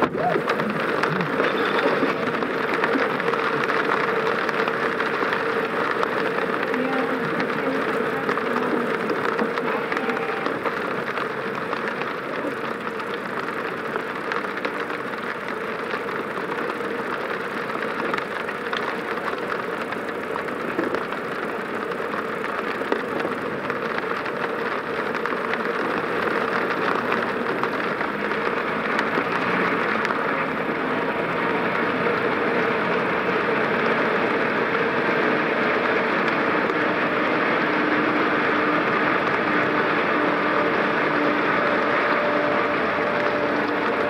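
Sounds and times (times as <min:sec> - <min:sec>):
car engine: 0:00.0 - 0:44.0
constant hum: 0:00.0 - 0:44.0.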